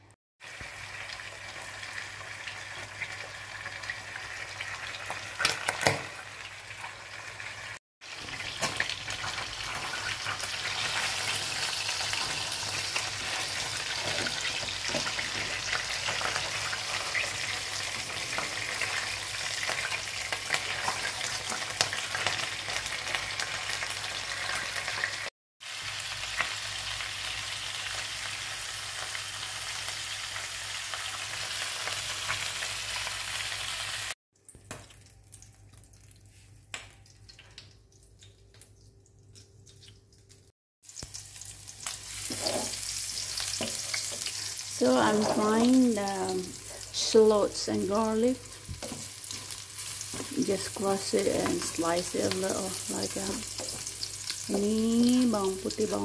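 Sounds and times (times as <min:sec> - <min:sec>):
fish sizzling in hot oil: 0:00.4 - 0:38.9, 0:39.8 - 0:56.0.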